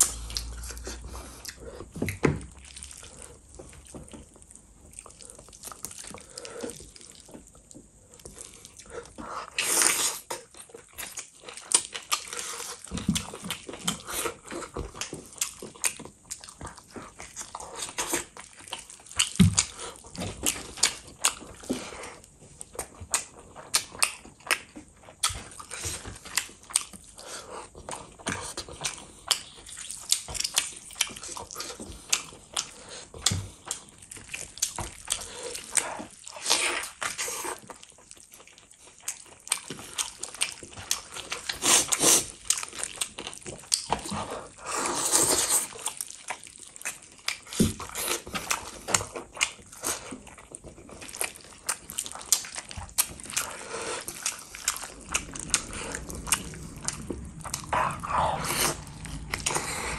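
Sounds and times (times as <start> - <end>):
chewing: 0.0 - 59.9
wet squelching of food in hands: 0.0 - 59.9.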